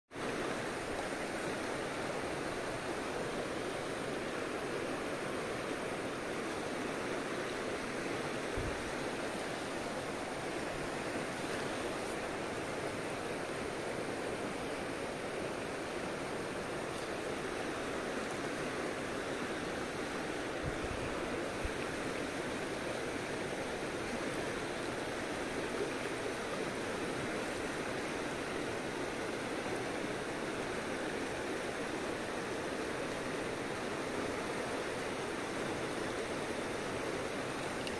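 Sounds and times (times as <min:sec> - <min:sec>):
river current rushing and rippling: 0:00.1 - 0:37.9.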